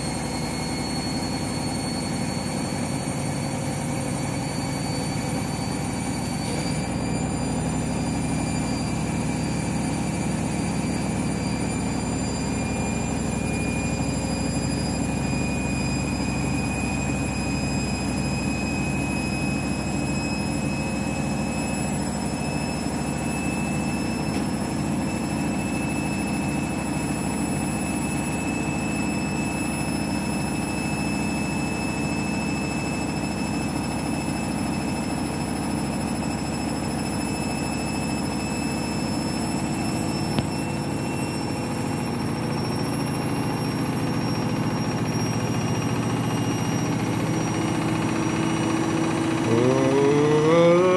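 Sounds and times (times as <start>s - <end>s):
washing machine motor whine: 0.0s - 50.9s.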